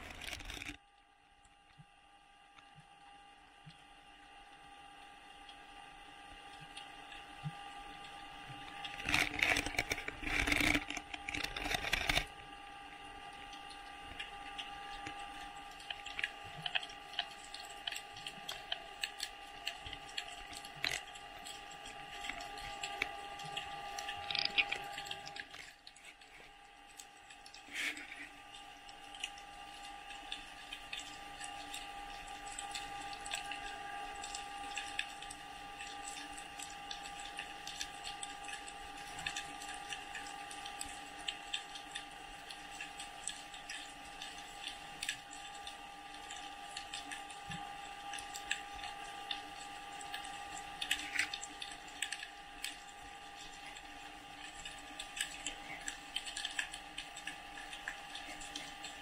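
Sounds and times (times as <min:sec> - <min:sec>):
underwater clicks crackling: 0:00.0 - 0:00.8, 0:06.4 - 0:12.5, 0:13.2 - 0:59.0
steady underwater hum: 0:00.0 - 0:59.0.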